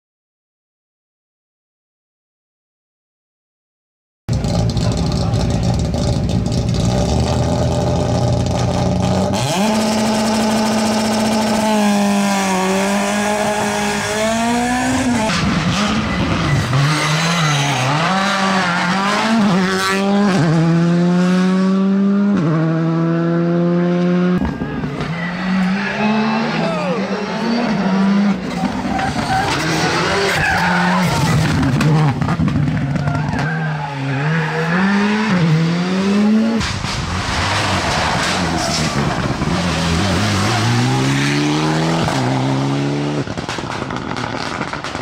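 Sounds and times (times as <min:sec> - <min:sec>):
rally car engine revving: 0:04.3 - 0:45.0.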